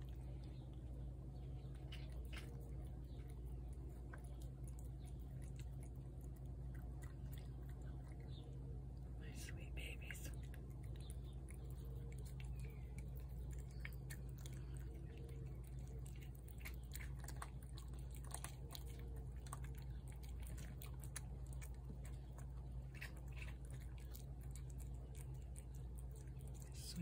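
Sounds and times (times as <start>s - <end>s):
cats chewing wet food: 0.0s - 27.0s
steady low hum: 0.0s - 27.0s.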